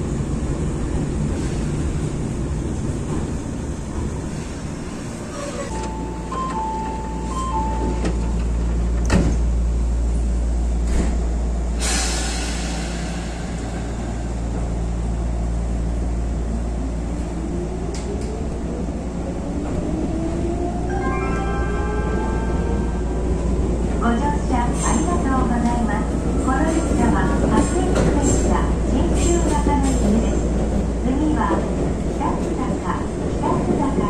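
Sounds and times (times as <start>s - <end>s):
electric train low hum: 0.0s - 34.0s.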